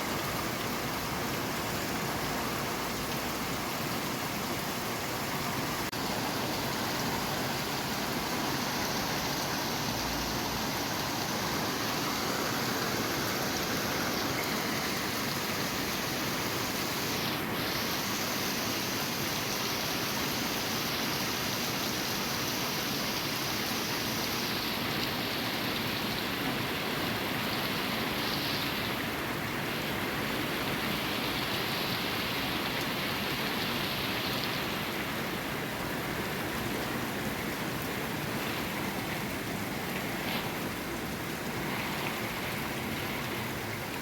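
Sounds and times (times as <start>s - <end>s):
steady rainfall: 0.0s - 44.0s.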